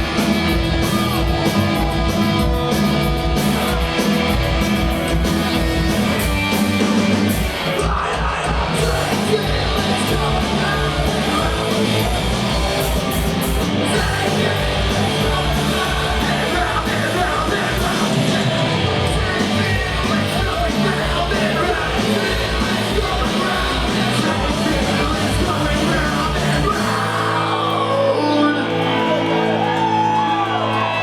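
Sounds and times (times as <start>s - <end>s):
singer shouting: 0.0s - 2.9s, 7.6s - 31.0s
driving drum beat: 0.0s - 27.6s
bass guitar: 0.0s - 31.0s
electric guitar: 0.0s - 31.0s.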